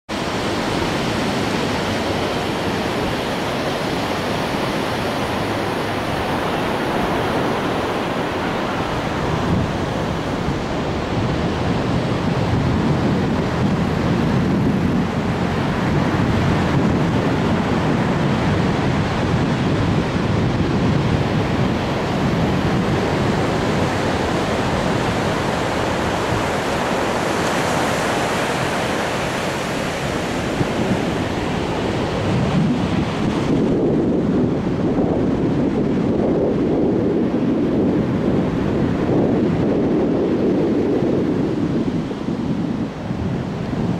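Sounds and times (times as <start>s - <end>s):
ocean surf on beach: 0.1s - 43.9s
wind on microphone: 0.1s - 43.9s.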